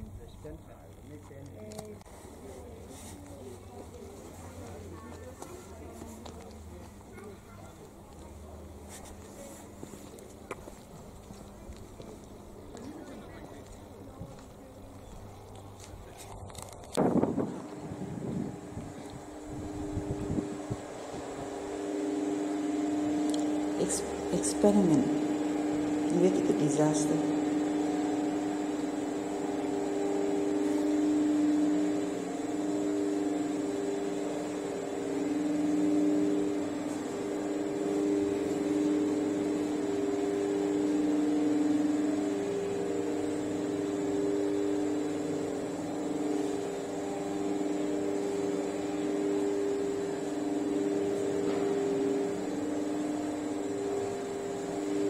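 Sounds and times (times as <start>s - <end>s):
faint high whine: 0.0s - 55.0s
low mechanical hum: 0.0s - 55.0s.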